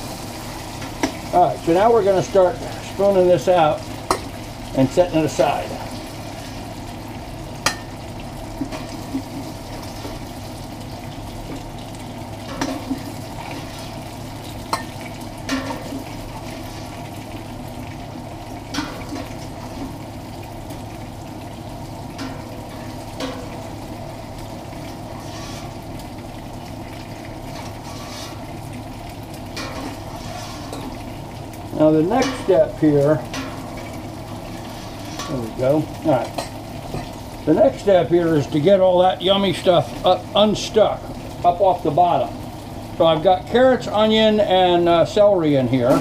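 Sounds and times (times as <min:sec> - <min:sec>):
meat sizzling in hot oil: 0:00.0 - 0:46.0.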